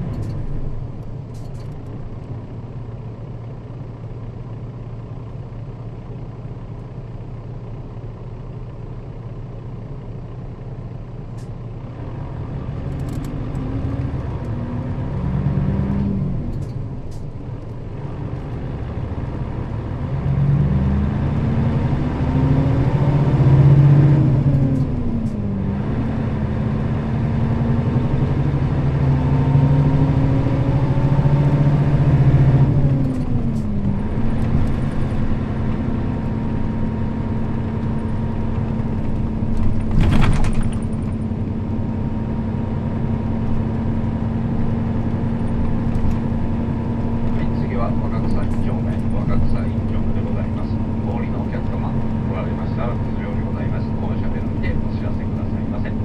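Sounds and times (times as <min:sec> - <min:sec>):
bus engine accelerating: 0:00.0 - 0:09.4, 0:10.0 - 0:56.0.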